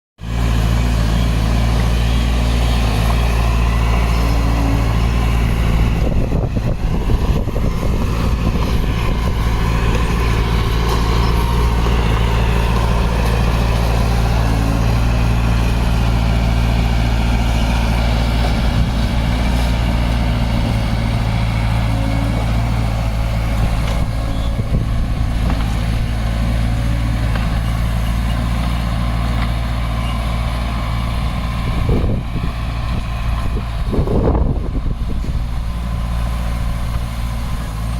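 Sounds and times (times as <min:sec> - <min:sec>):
diesel engine droning: 0:00.2 - 0:37.9.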